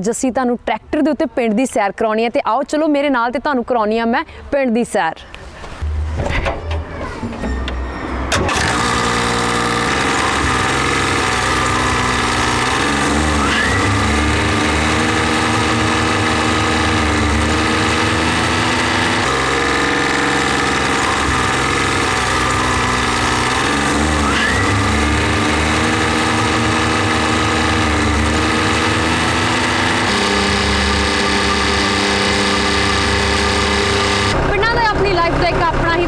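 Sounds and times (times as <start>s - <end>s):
tractor diesel engine running: 6.7s - 36.0s.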